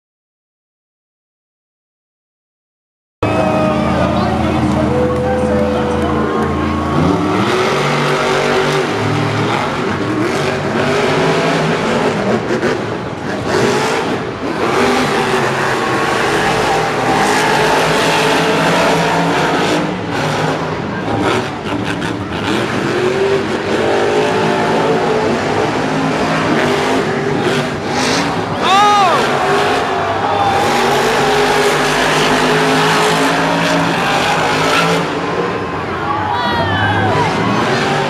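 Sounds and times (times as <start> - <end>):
monster truck engines revving: 3.2 - 38.0.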